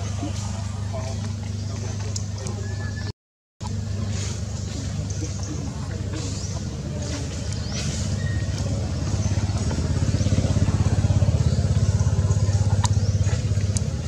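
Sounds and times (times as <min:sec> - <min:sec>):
engine running with even pulsing: 0:00.0 - 0:14.0.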